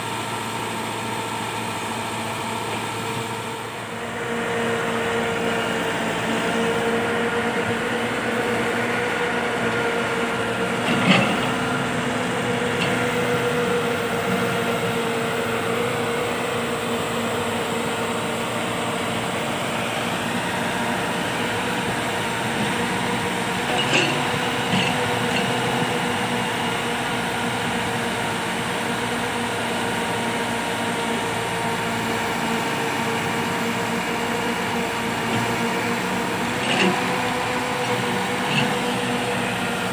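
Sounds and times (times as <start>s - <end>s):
hydraulic whine: 0.0s - 39.9s
tractor diesel engine running: 0.0s - 39.9s.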